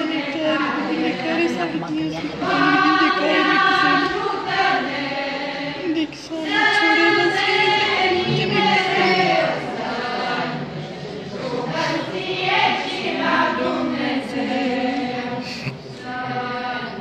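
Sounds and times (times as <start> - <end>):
group chanting a hymn: 0.0 - 17.0.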